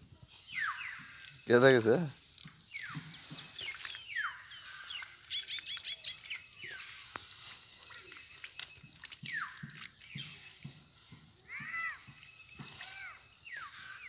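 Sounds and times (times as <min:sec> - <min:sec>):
hands squelching through mud: 0:02.2 - 0:14.0.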